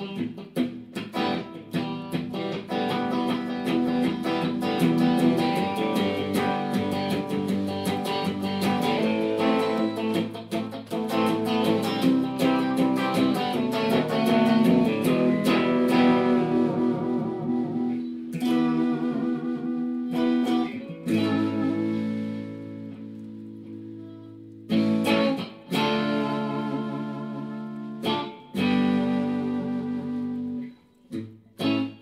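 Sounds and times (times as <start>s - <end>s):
plucked string instrument: 0.0s - 32.0s.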